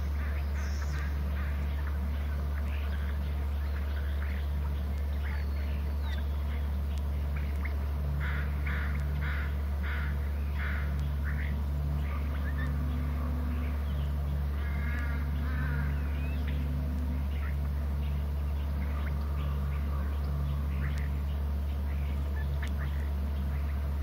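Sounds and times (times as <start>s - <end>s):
steady low hum: 0.0s - 24.0s
wild birds calling: 0.0s - 24.0s.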